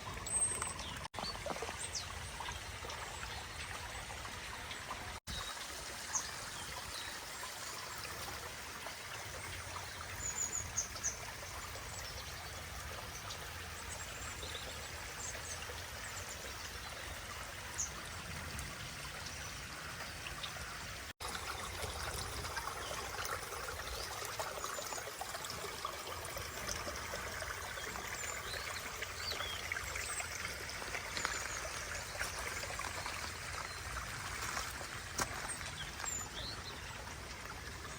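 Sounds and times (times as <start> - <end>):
water trickling over rocks: 0.0 - 37.9.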